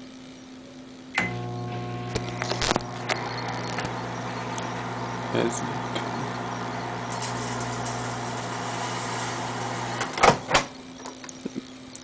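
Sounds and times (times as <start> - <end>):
microwave oven humming: 0.3 - 12.0.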